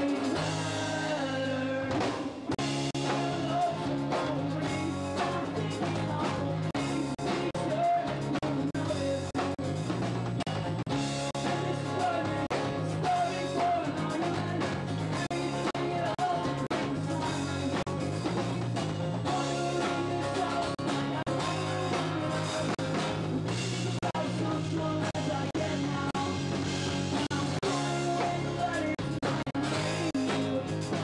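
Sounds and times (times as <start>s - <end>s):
man singing: 0.0s - 9.8s, 11.2s - 31.0s
drums: 0.0s - 31.0s
electric guitar: 0.0s - 31.0s.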